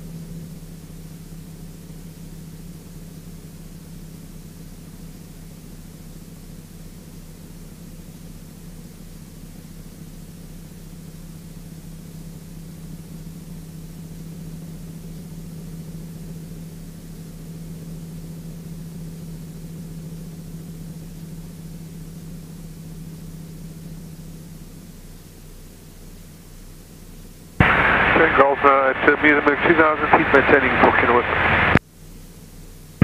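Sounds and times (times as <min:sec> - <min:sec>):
aircraft engine and propeller: 0:00.0 - 0:33.0.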